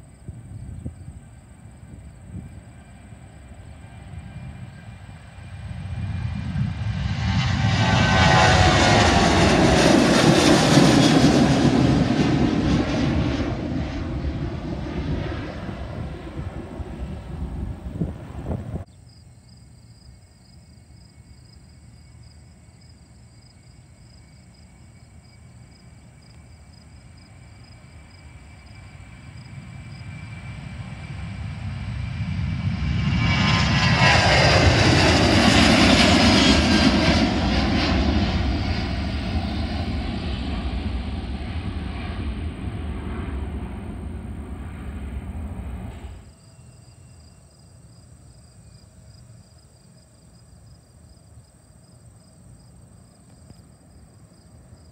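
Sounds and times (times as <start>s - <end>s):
jet plane taking off: 0.0s - 18.9s, 21.8s - 50.0s.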